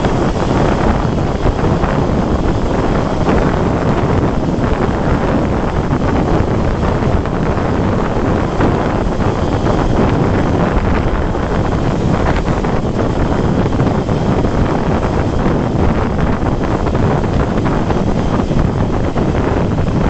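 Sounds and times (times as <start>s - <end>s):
motorcycle ride rumble: 0.0s - 20.0s
wind buffeting microphone: 0.0s - 20.0s.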